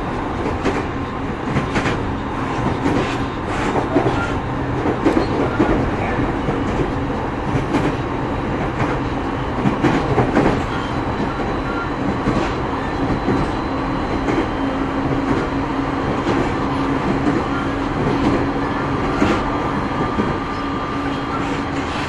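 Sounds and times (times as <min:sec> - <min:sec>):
rail joint clicks: 0:00.0 - 0:22.0
train wheels rumbling on rail: 0:00.0 - 0:22.0.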